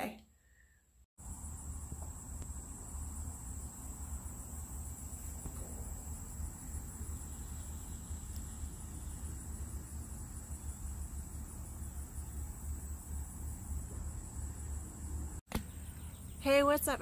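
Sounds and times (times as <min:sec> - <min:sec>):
insects trilling: 0:00.4 - 0:17.0.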